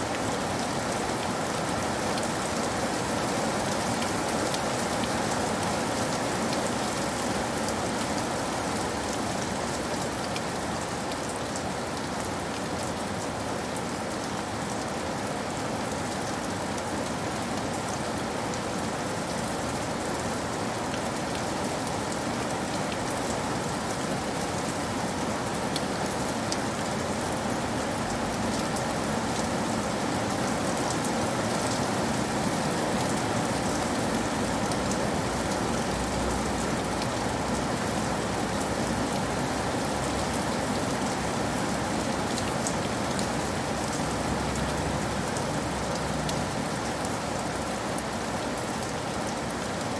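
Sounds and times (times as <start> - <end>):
steady rain pattering: 0.0 - 49.9.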